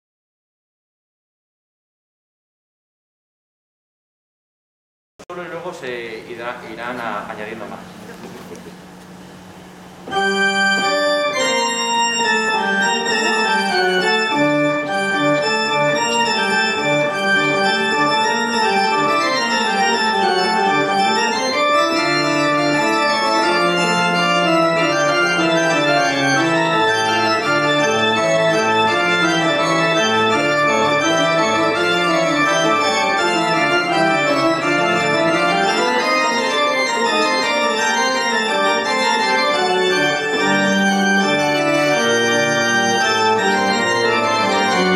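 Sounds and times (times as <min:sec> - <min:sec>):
pipe organ playing: 0:05.3 - 0:44.9.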